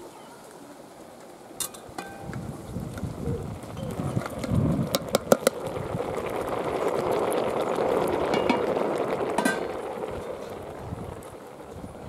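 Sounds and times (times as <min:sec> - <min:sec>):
pot of lentils boiling: 0:00.0 - 0:12.0.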